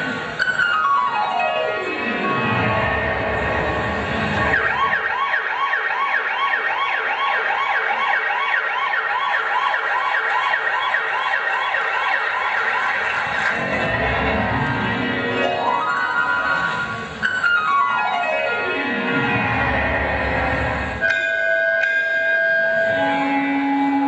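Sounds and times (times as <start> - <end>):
emergency vehicle siren wailing: 0.0 - 24.0.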